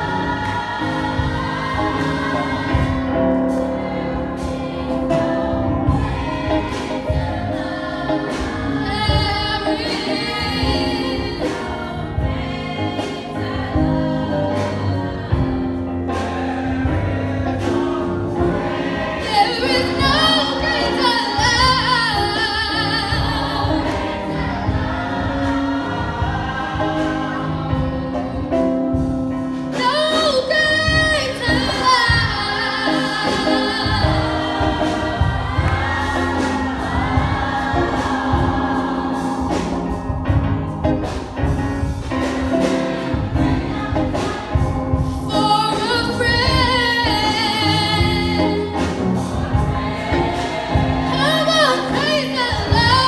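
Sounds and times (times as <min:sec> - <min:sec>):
choir singing gospel: 0:00.0 - 0:53.0
instrumental backing with bass line: 0:00.0 - 0:53.0.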